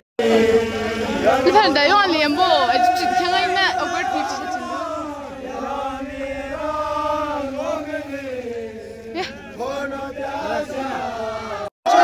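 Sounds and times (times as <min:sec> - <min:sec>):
men chanting in long notes: 0:00.2 - 0:12.0.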